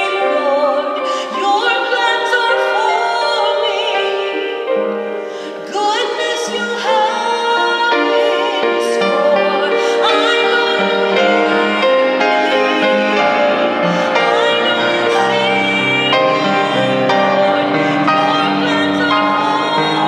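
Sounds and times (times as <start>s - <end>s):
upright piano: 0.0s - 20.0s
woman singing with vibrato: 0.0s - 20.0s.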